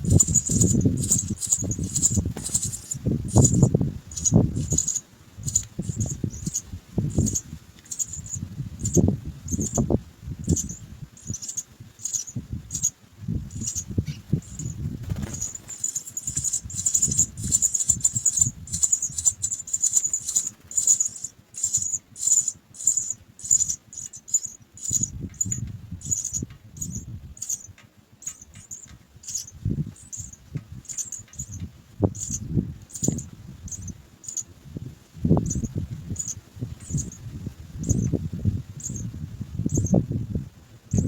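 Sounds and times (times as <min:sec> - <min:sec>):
nestlings begging cheeps: 0:00.0 - 0:34.5, 0:35.4 - 0:37.2, 0:37.8 - 0:38.1.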